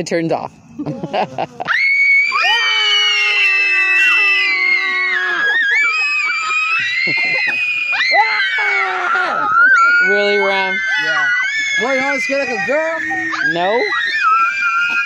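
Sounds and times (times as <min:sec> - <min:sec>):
people screaming: 0:00.9 - 0:15.0.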